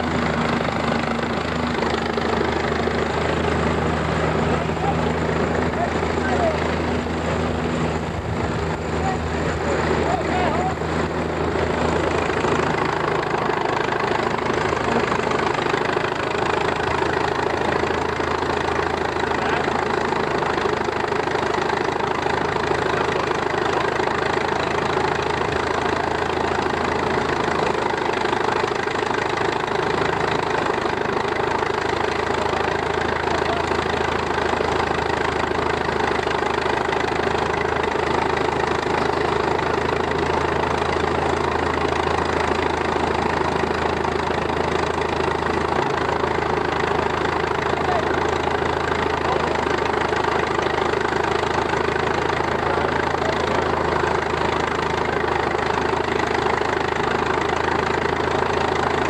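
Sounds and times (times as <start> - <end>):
threshing machine running: 0.0 - 59.0.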